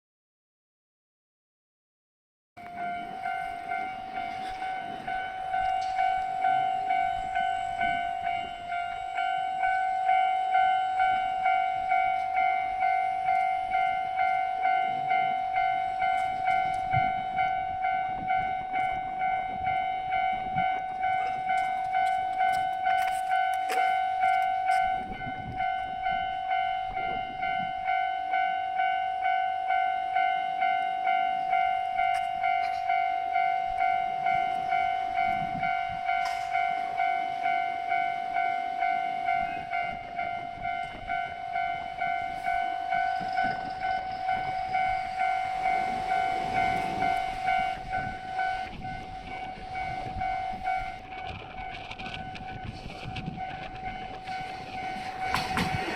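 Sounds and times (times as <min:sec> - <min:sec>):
level crossing warning bell: 0:02.6 - 0:55.9.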